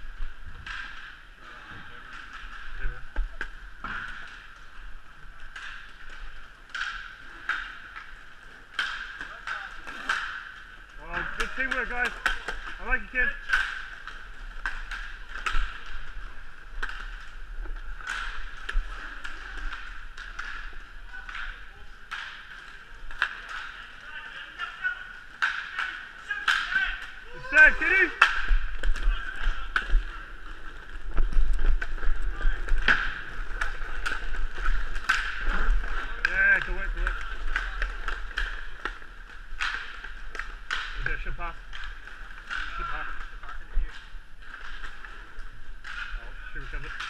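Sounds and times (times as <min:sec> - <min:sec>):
skates rolling on hard court: 0:00.0 - 0:47.0
sticks and puck clacking: 0:00.0 - 0:47.0.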